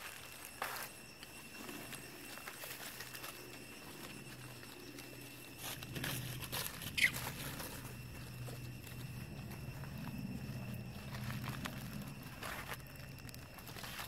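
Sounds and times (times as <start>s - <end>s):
dry leaves rustling underfoot: 0.0s - 14.0s.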